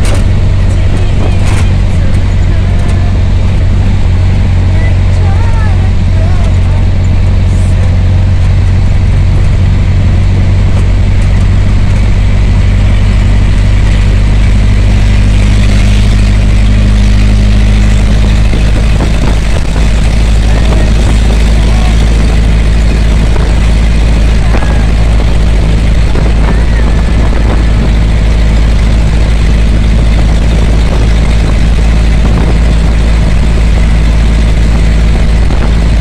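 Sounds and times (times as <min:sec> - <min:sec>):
engine and road noise drone: 0:00.0 - 0:36.0.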